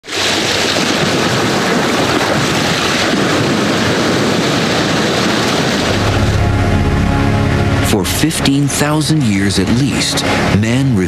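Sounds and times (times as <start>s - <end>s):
ocean waves washing: 0.0s - 11.0s.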